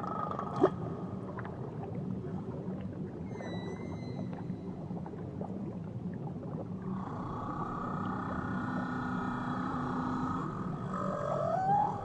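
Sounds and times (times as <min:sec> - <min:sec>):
low rumble of water: 0:00.0 - 0:12.0
whale song underwater: 0:00.0 - 0:12.0.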